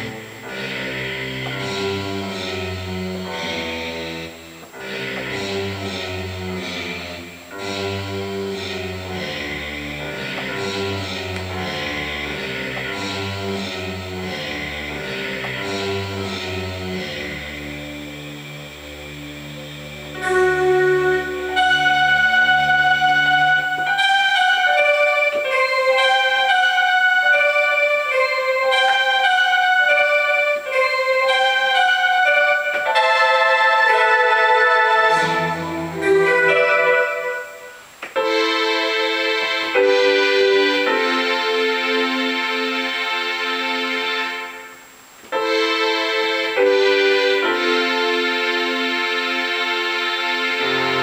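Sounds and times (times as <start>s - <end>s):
keyboard chords: 0.0s - 51.0s
synth keyboard melody: 0.0s - 51.0s.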